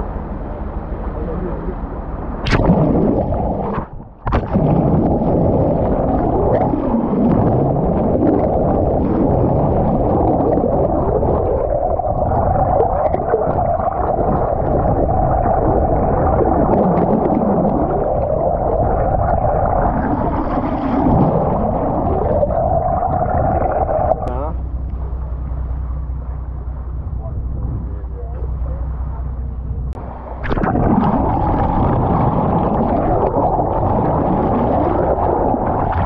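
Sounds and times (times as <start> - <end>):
muffled underwater rush: 0.0 - 36.0.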